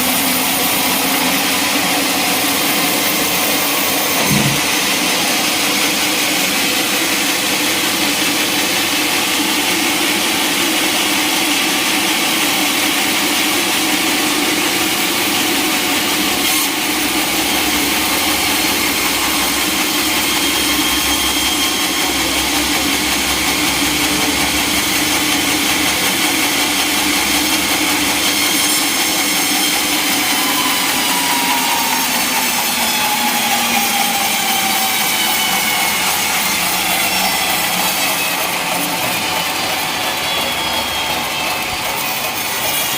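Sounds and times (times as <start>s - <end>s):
saw cutting through log: 0.0s - 42.9s.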